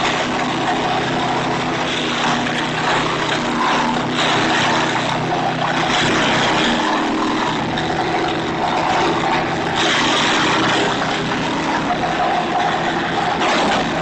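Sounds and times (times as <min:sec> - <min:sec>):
wood chipper engine hum: 0:00.0 - 0:14.0.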